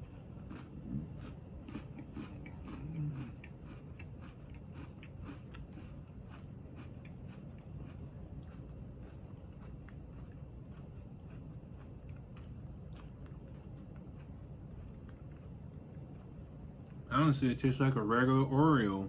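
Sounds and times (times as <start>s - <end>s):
person chewing crunchy cookie: 0.0s - 17.1s.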